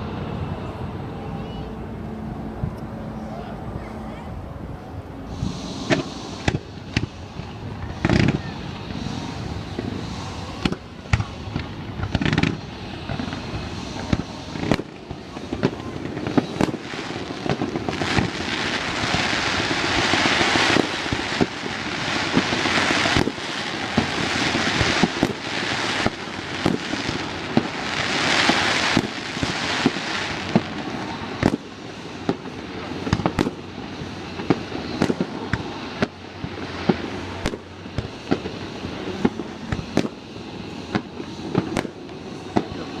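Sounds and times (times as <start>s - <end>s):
firework crackling: 5.2s - 43.0s
firework bangs: 5.3s - 43.0s.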